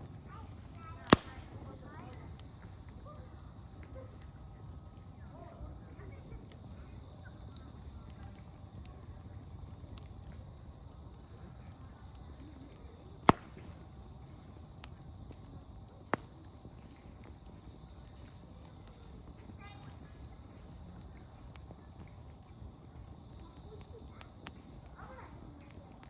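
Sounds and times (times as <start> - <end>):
campfire burning: 0.0 - 26.0
insects chirping: 0.0 - 26.0
firewood popping: 0.1 - 5.2, 6.4 - 26.0.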